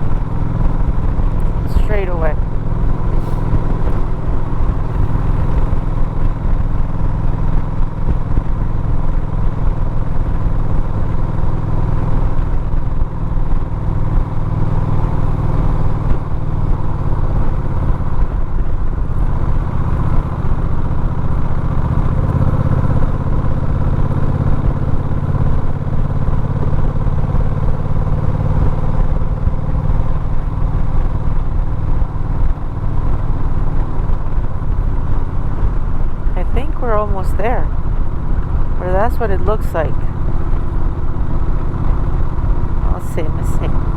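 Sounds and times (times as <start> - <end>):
road noise: 0.0 - 43.9
vehicle engine running: 0.0 - 43.9.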